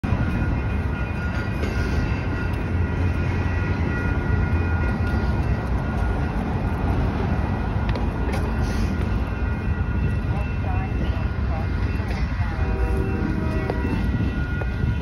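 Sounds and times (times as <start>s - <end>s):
low rumble of street noise: 0.0s - 15.0s.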